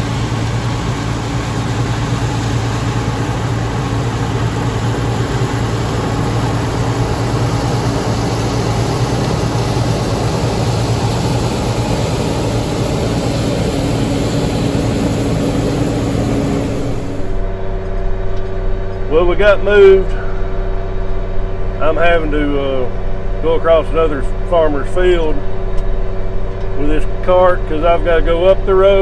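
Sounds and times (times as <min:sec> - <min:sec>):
high steady hum: 0:00.0 - 0:29.0
tractor engine droning: 0:00.0 - 0:29.0.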